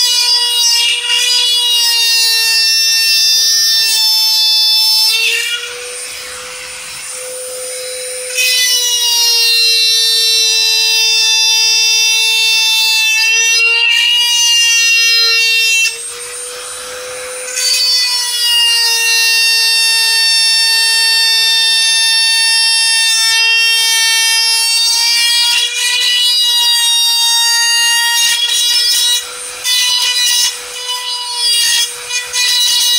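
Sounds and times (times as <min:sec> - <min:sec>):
rotary tool high-pitched whine: 0:00.0 - 0:32.9.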